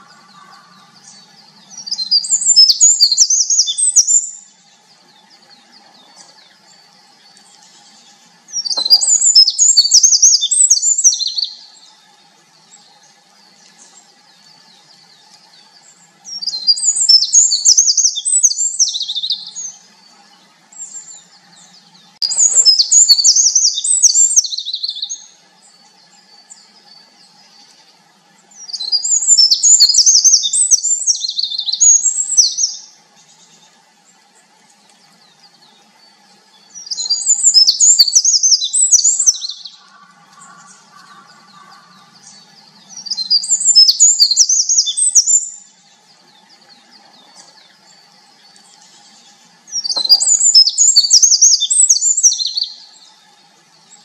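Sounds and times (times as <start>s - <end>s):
bird singing trills: 0.0s - 54.0s.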